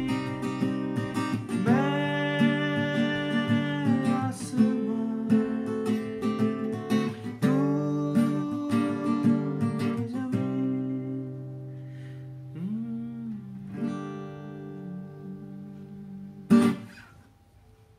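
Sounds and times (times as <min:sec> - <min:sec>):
acoustic guitar strumming chords: 0:00.0 - 0:17.7.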